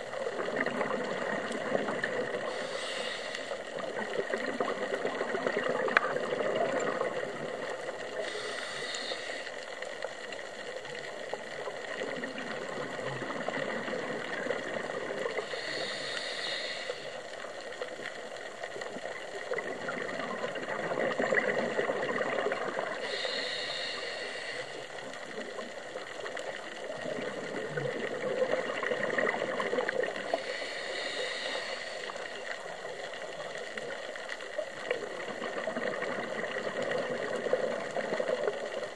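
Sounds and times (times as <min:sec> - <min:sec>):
regulator hiss on inhale: 0:00.0 - 0:04.7, 0:06.0 - 0:20.5, 0:21.7 - 0:35.0
exhaust bubbles gurgling: 0:00.0 - 0:09.0, 0:10.8 - 0:38.9.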